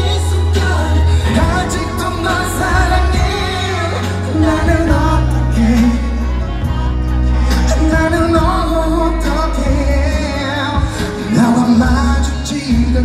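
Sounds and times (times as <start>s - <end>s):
man singing into microphone: 0.0s - 13.0s
pop backing track with heavy bass: 0.0s - 13.0s.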